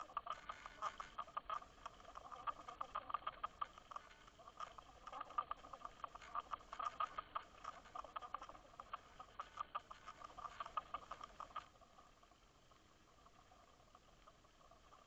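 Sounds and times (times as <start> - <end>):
faint underwater clicking: 0.0 - 15.0.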